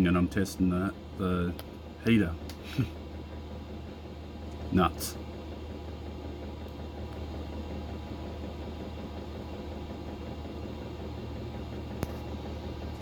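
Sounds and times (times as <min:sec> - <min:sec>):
air heater blower humming: 0:00.0 - 0:13.0.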